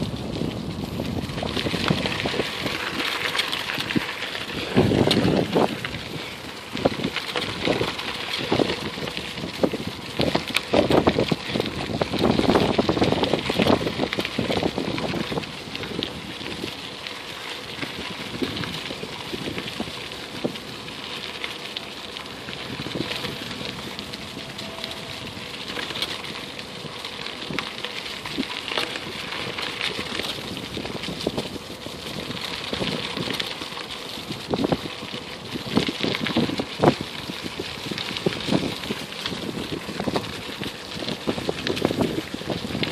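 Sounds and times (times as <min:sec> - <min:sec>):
bicycle tyres rolling over dry leaves: 0:00.0 - 0:42.9.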